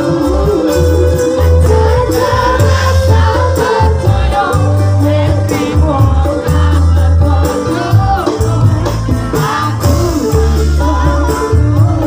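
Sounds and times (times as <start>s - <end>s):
crowd singing along: 0.0s - 12.0s
live band music: 0.0s - 12.0s.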